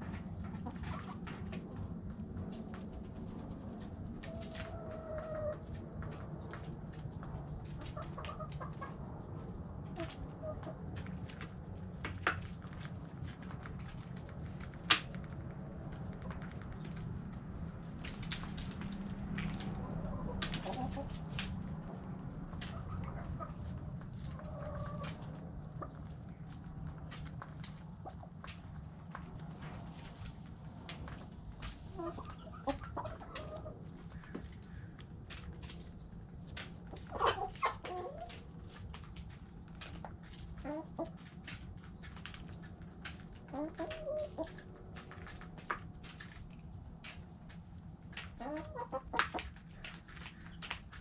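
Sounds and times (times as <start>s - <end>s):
hens clucking: 0.0s - 51.0s.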